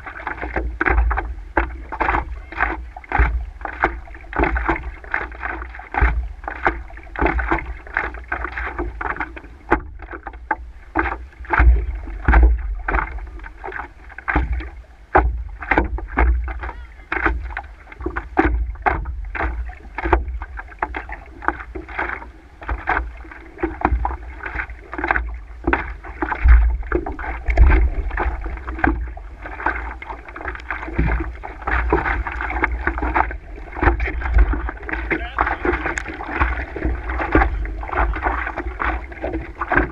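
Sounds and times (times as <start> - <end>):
paddle dipping into water: 0.0 - 39.9
water splashing against a board: 0.0 - 39.9
wind rumble on microphone: 0.0 - 39.9.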